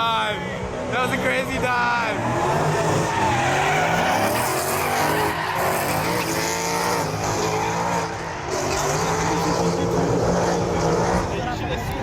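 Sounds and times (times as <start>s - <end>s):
car engines revving: 0.0s - 12.0s
tires squealing and skidding: 0.2s - 11.8s.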